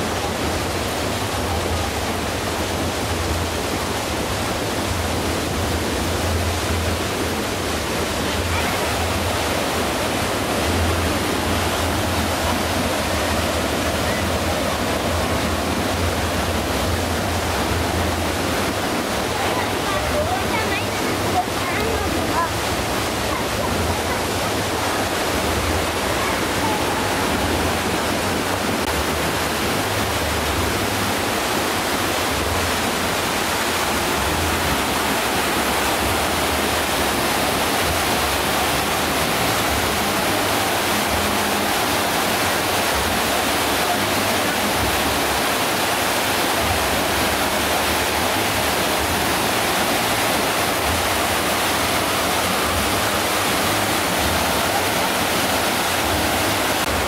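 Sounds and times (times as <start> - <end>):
cascading water rushing: 0.0 - 57.0.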